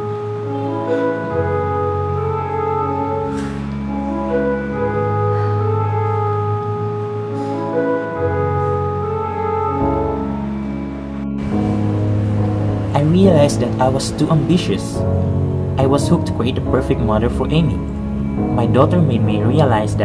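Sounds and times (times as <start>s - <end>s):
slow keyboard chords: 0.0s - 20.0s
sustained bass: 0.0s - 20.0s.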